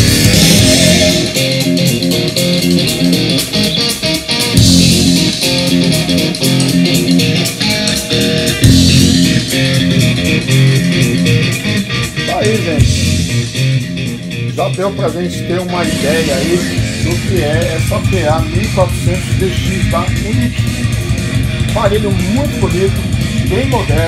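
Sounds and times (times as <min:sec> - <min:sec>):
guitar music over loudspeakers: 0:00.0 - 0:24.0.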